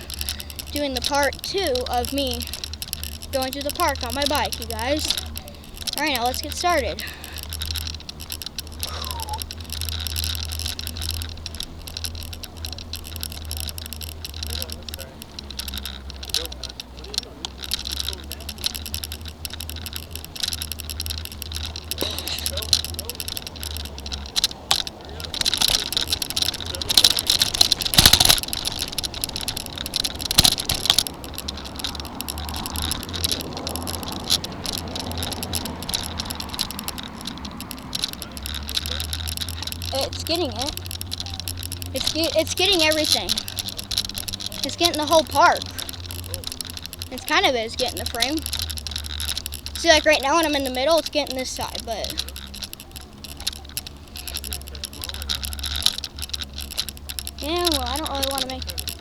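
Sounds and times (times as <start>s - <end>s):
bicycle clicking and rattling: 0.0s - 59.0s
low steady rumble: 0.0s - 59.0s.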